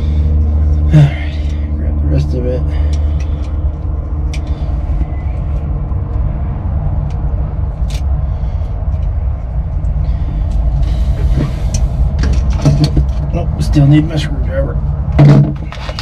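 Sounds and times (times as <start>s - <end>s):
faint hum: 0.0s - 16.0s
low rumble: 0.0s - 16.0s.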